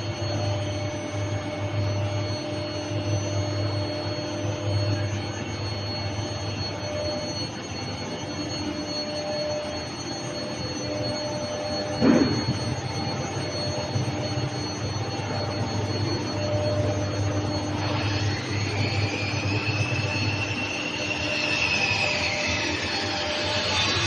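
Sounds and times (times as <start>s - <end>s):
industrial machinery hum: 0.0s - 24.0s.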